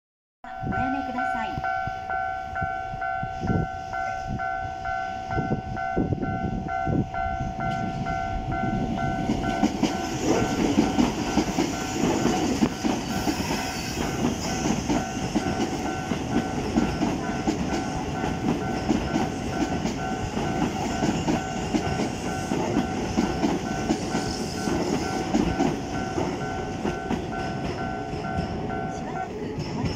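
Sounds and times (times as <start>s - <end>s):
train passing rumble: 0.5s - 29.9s.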